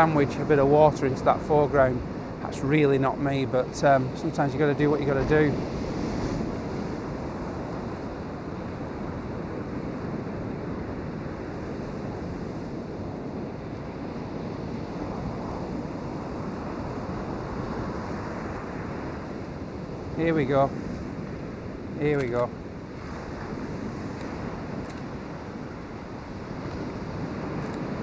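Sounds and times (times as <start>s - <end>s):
sea surf washing up a beach: 0.0s - 28.0s.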